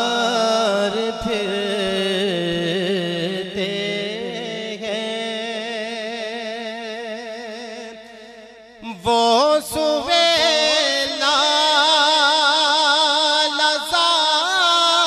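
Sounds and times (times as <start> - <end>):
man singing with vibrato: 0.0 - 15.0.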